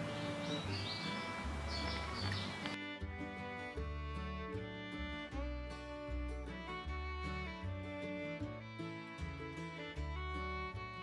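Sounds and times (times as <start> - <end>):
background instrumental music: 0.0 - 11.0.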